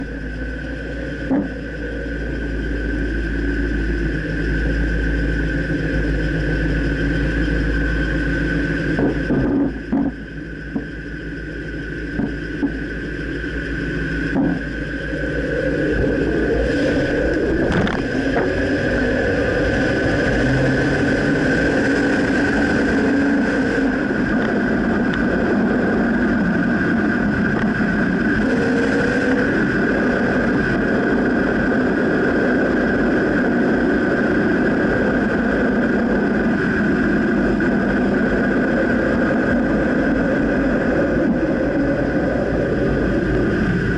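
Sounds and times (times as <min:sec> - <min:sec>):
pickup truck engine: 0:00.0 - 0:43.9.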